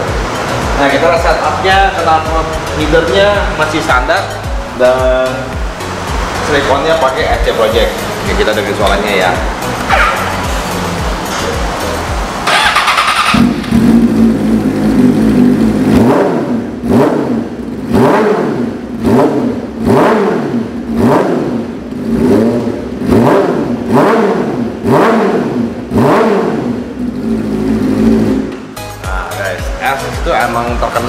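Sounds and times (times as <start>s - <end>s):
motorcycle engine revving: 0.0s - 28.8s.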